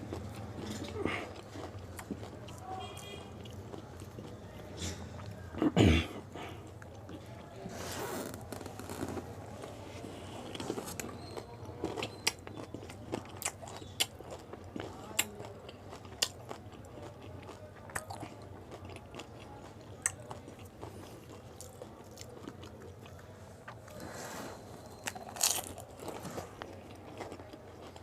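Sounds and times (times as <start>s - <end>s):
crunching and chewing crisp shells: 0.0s - 28.0s.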